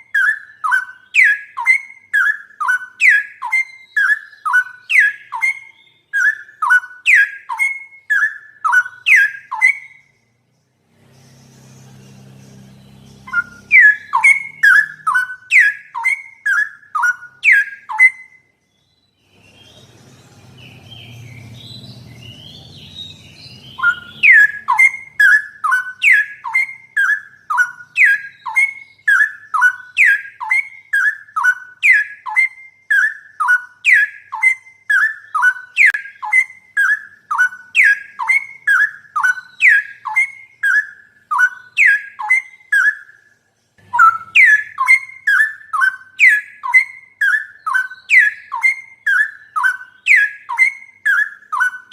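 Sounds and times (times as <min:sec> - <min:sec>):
bird whistling song: 0:00.0 - 0:51.9.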